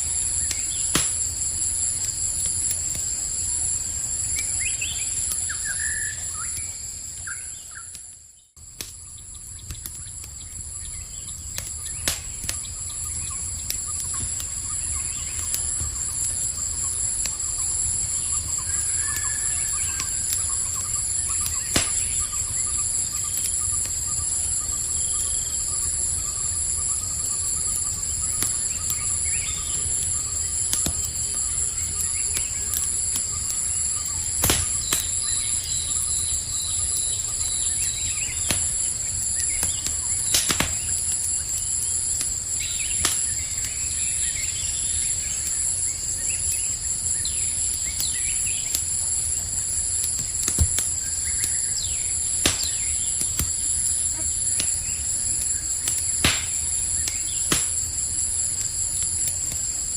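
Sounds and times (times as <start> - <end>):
crickets chirping: 0.0 - 59.9
campfire crackling pops: 0.1 - 59.9.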